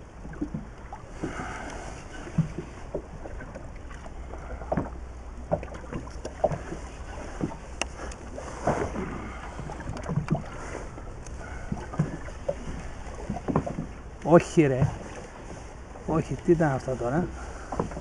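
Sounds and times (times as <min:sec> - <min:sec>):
water slapping against boat hull: 0:00.0 - 0:18.0.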